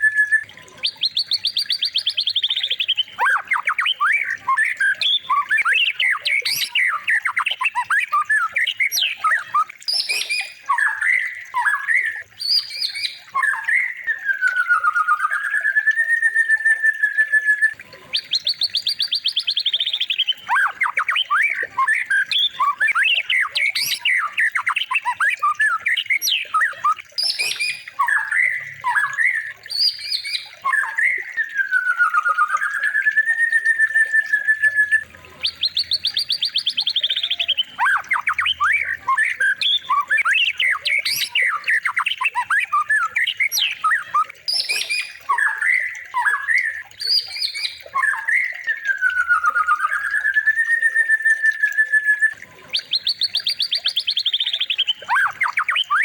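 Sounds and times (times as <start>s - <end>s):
songbird trills and whistles: 0.0s - 56.0s.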